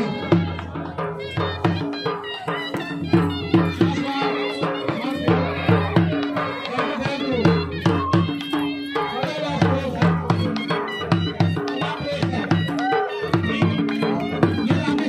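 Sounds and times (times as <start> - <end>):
drum beating a steady rhythm: 0.0 - 15.0
reedy wind instrument melody: 0.0 - 15.0.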